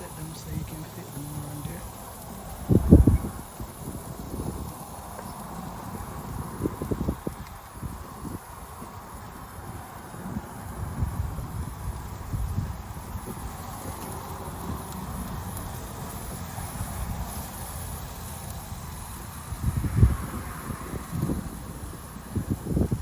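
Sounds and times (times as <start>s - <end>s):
faint hiss: 0.0s - 23.0s
wind buffeting microphone: 0.0s - 23.0s.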